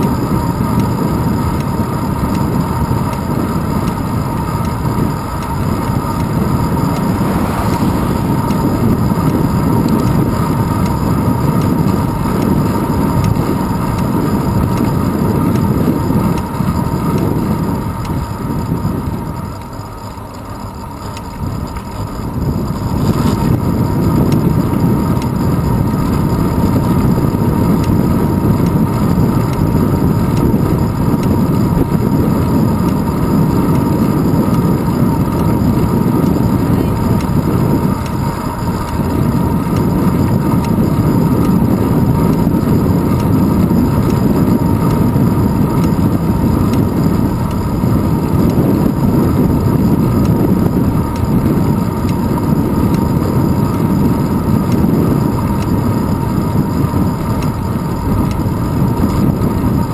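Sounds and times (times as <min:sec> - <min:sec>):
bicycle road rumble: 0:00.0 - 0:59.9
wind rushing over camera: 0:00.0 - 0:59.9.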